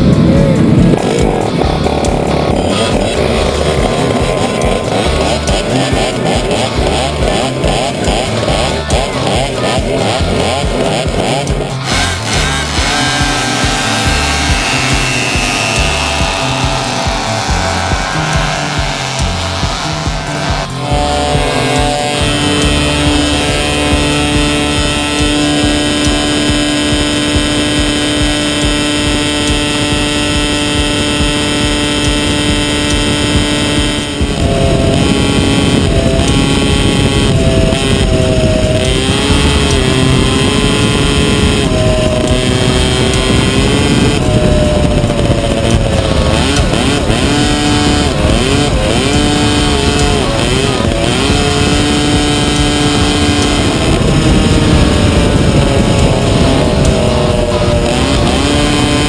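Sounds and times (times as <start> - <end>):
kart engine running flat out: 0.0 - 59.0.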